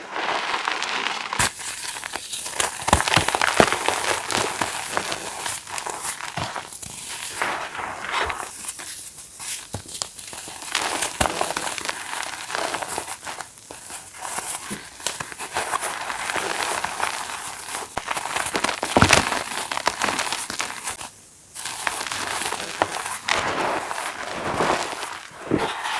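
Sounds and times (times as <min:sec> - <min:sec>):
chalk crunching by hand: 0:00.0 - 0:25.9.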